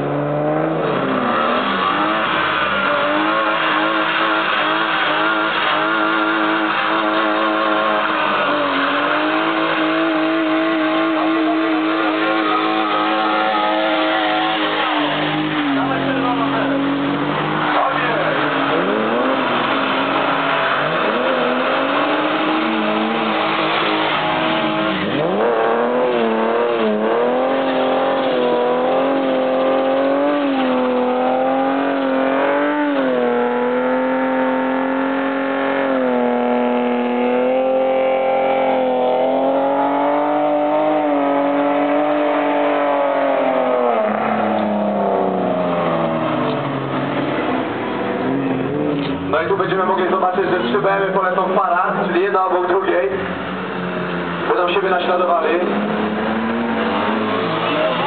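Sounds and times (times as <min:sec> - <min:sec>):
car engine at high revs: 0:00.0 - 0:58.0
passing cars: 0:00.0 - 0:58.0
tyres spinning and squealing: 0:00.5 - 0:58.0.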